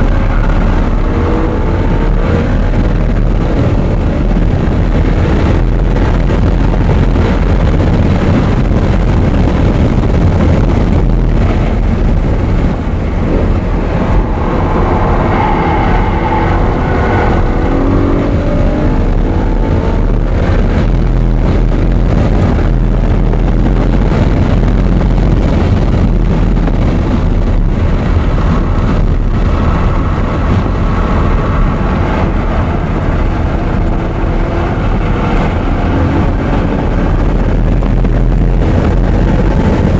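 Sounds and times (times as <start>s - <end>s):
race car engine revving: 0.0s - 39.9s
wind noise: 0.0s - 39.9s.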